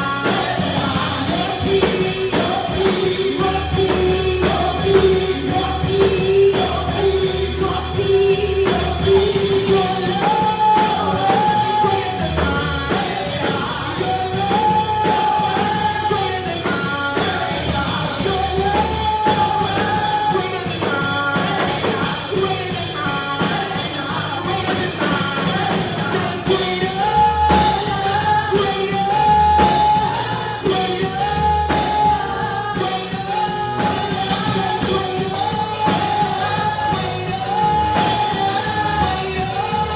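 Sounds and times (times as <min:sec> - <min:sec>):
band with drums: 0:00.0 - 0:39.9
gospel singing: 0:00.0 - 0:39.9.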